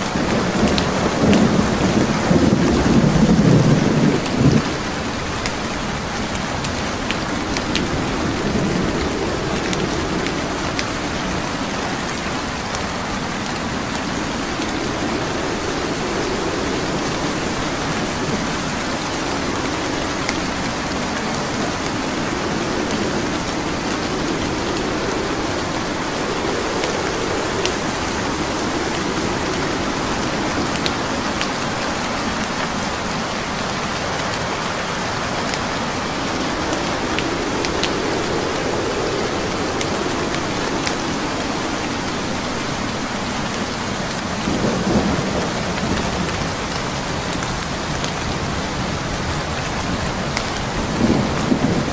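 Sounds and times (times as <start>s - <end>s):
low rumble: 0.0s - 47.4s
rain hissing: 0.0s - 51.9s
wood fire crackling: 0.0s - 51.9s.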